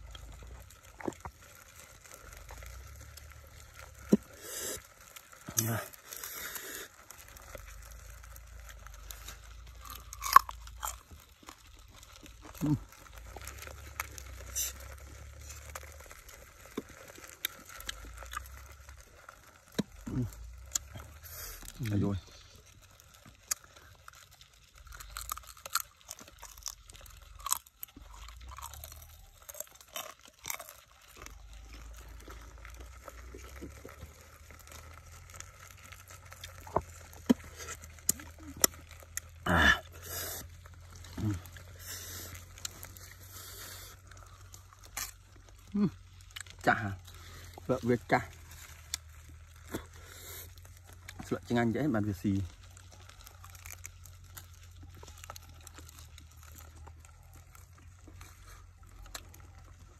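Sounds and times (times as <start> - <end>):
beetle shells cracking by hand: 0.0 - 59.9
low steady rumble: 0.0 - 59.9.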